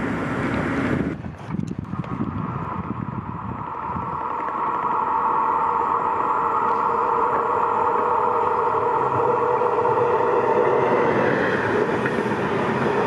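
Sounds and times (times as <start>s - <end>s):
electric train high hum: 0.0s - 13.0s.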